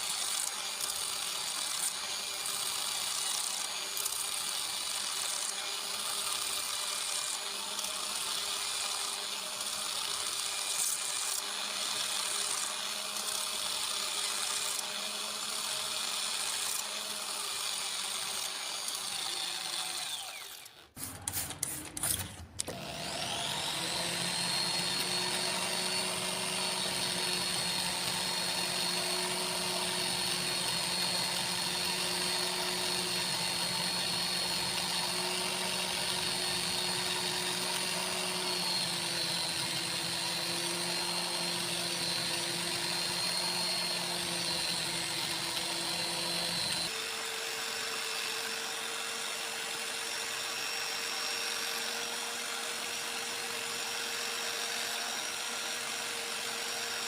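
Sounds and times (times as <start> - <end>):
power tool motor running: 0.0 - 57.0.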